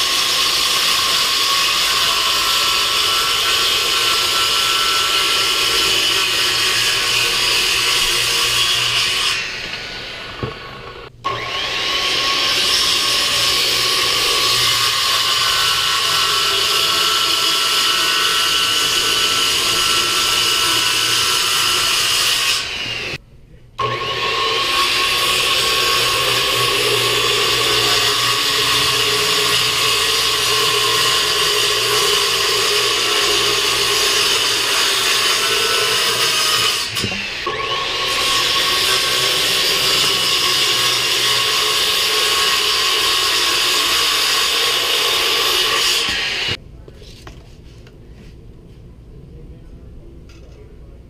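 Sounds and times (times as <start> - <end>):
circular saw cutting plywood: 0.0 - 23.2, 23.8 - 46.6.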